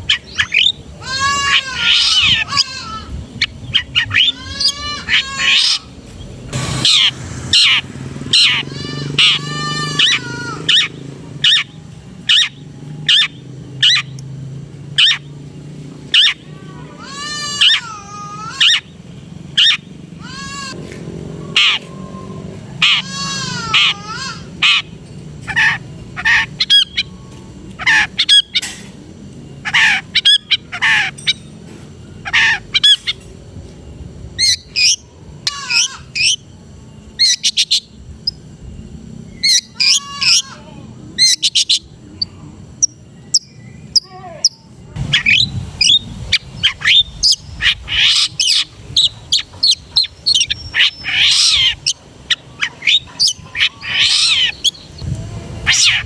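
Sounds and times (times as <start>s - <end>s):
bird harsh chatter: 0.0s - 14.2s, 16.1s - 20.8s, 21.5s - 29.0s, 29.6s - 31.6s, 32.2s - 33.3s, 34.4s - 36.4s, 39.4s - 56.0s
bird singing varied song: 0.0s - 16.6s, 20.9s - 56.0s.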